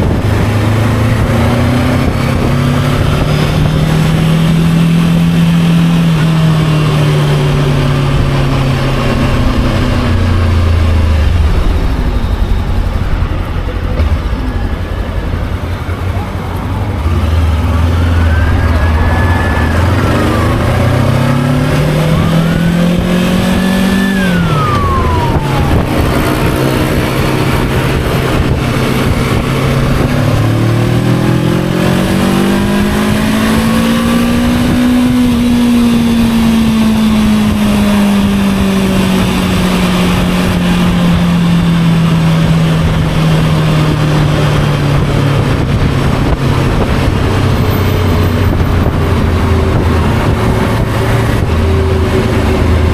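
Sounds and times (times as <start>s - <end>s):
motorcycle engine accelerating: 0.0s - 52.9s
wind rushing over microphone: 0.0s - 52.9s.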